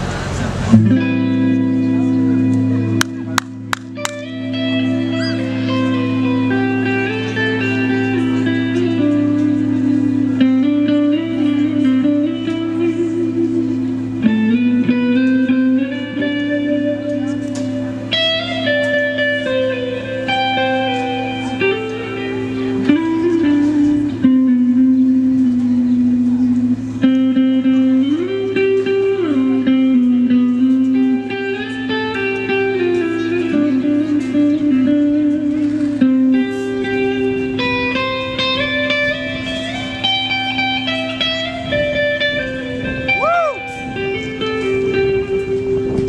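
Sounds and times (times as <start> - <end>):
slow electric guitar melody: 0.0 - 46.0
steady low drone: 0.0 - 46.0.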